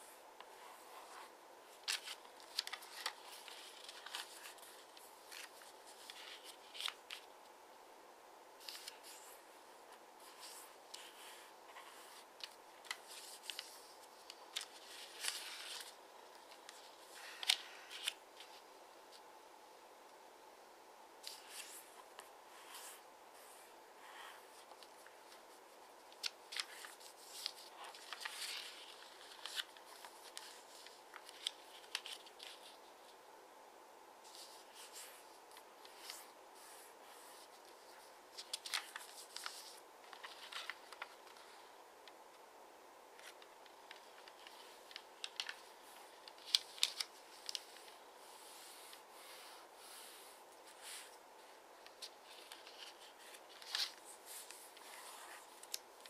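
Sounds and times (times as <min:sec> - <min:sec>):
faint steady hiss: 0:00.0 - 0:56.0
paper being folded and creased: 0:00.5 - 0:07.3, 0:08.6 - 0:09.4, 0:10.2 - 0:18.6, 0:22.6 - 0:33.2, 0:34.3 - 0:41.7, 0:43.2 - 0:56.0.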